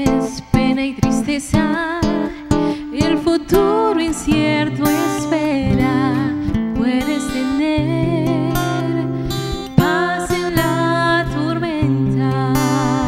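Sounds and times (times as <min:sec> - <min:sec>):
acoustic guitar: 0:00.0 - 0:13.0
woman singing a slow ballad: 0:00.0 - 0:13.0.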